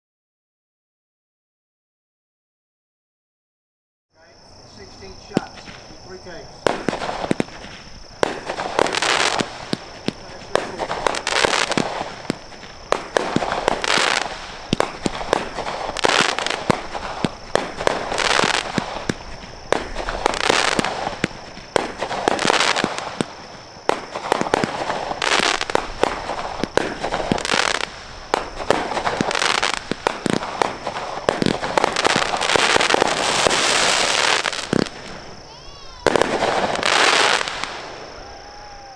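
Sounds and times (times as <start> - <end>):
firework bangs: 4.6 - 38.9
firework crackling: 4.6 - 38.9.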